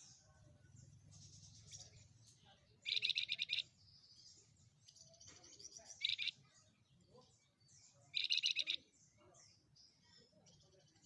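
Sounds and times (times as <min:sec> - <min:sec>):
songbird twittering and trilling: 0:00.0 - 0:11.0.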